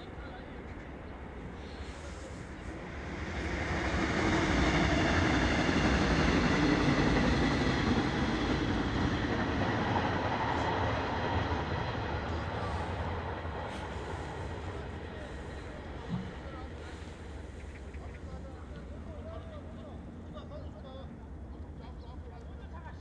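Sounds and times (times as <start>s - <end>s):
train passing rumble: 0.0s - 23.0s.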